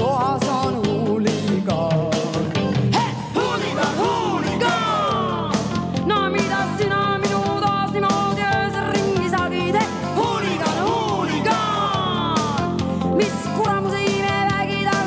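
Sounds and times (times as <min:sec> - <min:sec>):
guitar: 0:00.0 - 0:15.0
person singing: 0:00.0 - 0:15.0
steady drum beat: 0:00.0 - 0:15.0.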